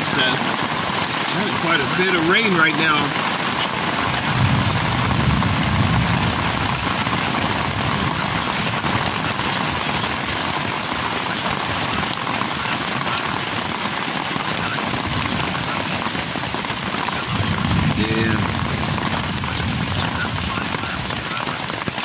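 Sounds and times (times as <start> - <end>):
heavy rain on a tent: 0.0 - 22.0.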